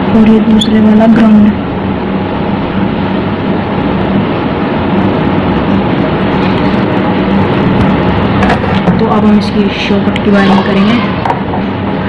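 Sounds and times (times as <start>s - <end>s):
low hum: 0.0s - 12.0s
rumble and hiss: 0.0s - 12.0s.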